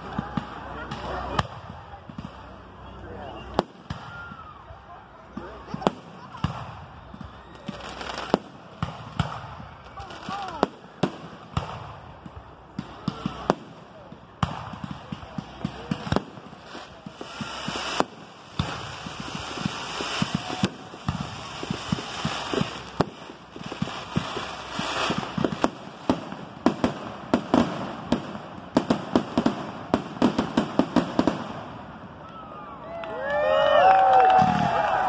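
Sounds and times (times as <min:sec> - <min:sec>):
fireworks crackling hiss: 0:00.0 - 0:32.6
fireworks bangs: 0:00.0 - 0:35.0.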